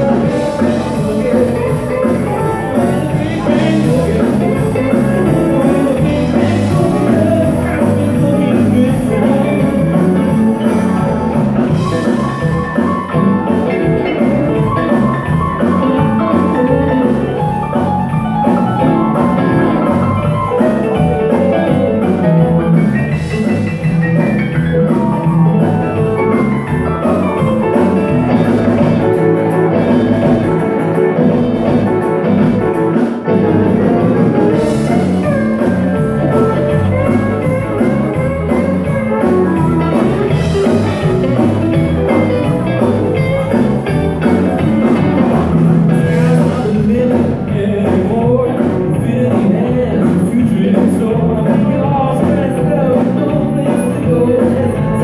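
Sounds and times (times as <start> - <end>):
live band playing dance music: 0.0 - 55.0.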